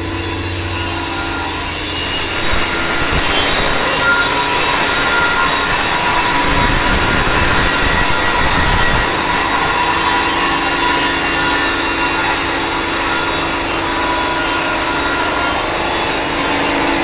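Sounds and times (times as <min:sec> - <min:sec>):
power tool on metal: 0:00.0 - 0:17.0.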